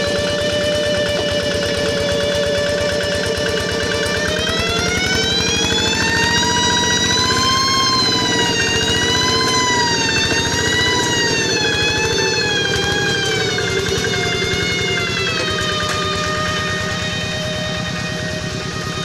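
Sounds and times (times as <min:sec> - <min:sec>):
tractor engine pulsing: 0:00.0 - 0:19.0
tractor high whine: 0:00.0 - 0:19.0.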